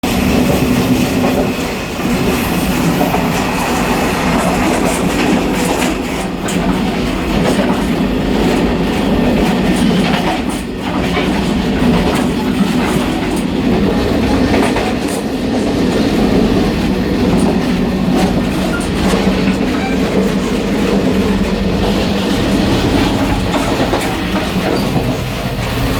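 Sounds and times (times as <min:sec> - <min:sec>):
train rumble and rattle: 0:00.0 - 0:25.9
wheels clacking over rail joints: 0:00.1 - 0:25.9.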